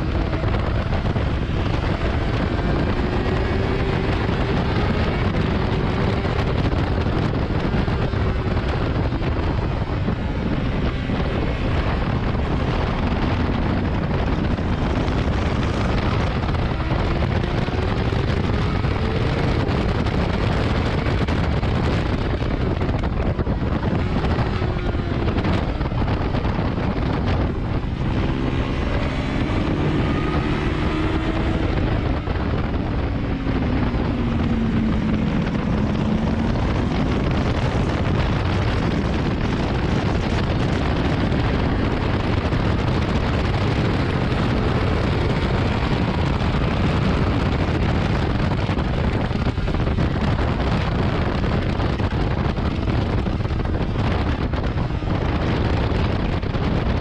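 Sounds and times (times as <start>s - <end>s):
motorcycle engine at speed: 0.0s - 57.0s
wind rush on microphone: 0.0s - 57.0s.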